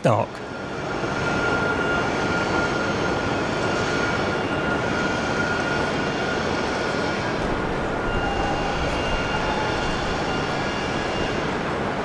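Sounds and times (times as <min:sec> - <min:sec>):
high steady whine: 0:00.0 - 0:12.0.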